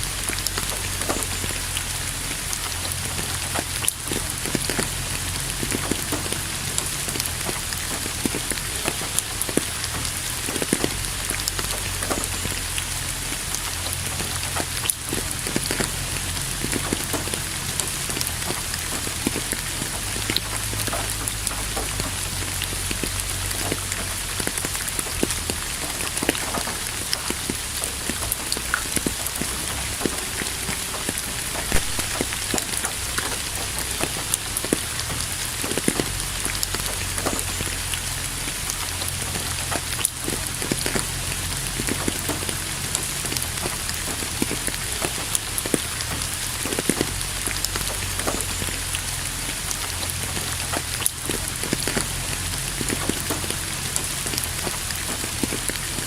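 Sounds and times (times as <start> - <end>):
rain hissing: 0.0 - 56.0
raindrops pattering: 0.0 - 56.0.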